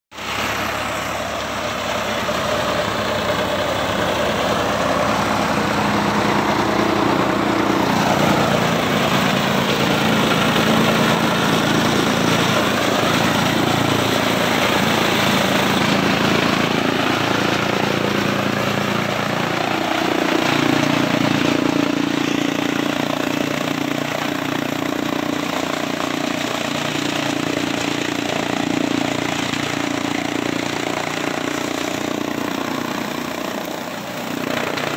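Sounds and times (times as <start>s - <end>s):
chaff cutter engine running: 0.1s - 34.9s.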